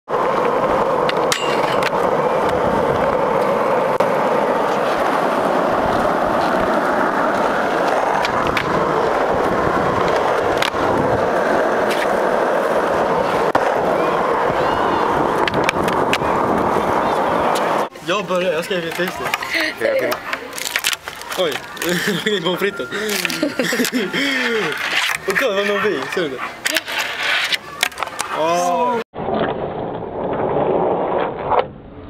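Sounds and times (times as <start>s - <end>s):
skateboard clacks: 0.1s - 22.3s, 23.1s - 28.5s
skateboard wheels rolling on asphalt: 0.1s - 32.0s.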